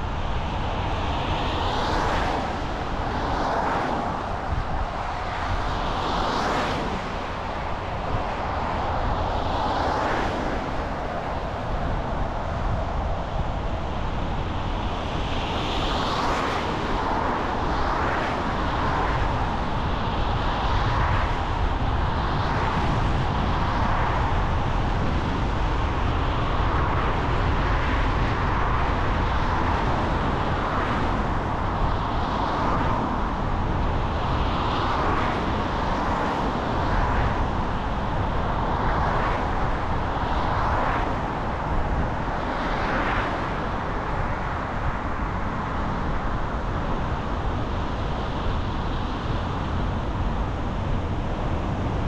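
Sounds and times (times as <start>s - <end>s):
car road and tyre noise: 0.0s - 52.0s.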